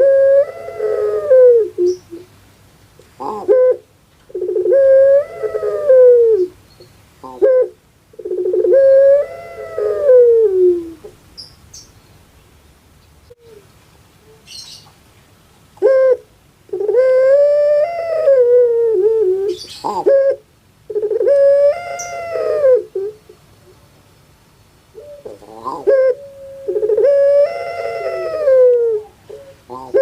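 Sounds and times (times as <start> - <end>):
dove cooing: 0.0 - 2.3, 3.2 - 6.6, 7.2 - 11.2, 13.3 - 14.8, 15.8 - 23.8, 24.9 - 30.0.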